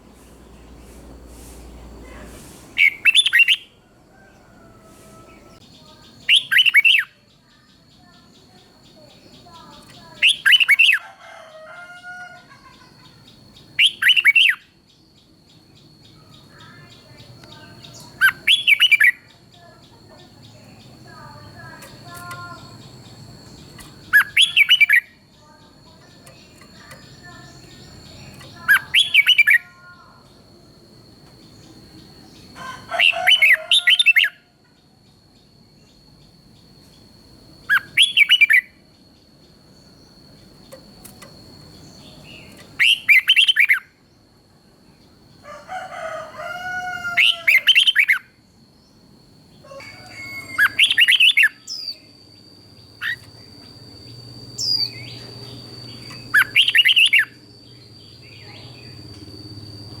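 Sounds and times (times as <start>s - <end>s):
bulbul singing: 0.0s - 11.0s, 12.4s - 60.0s.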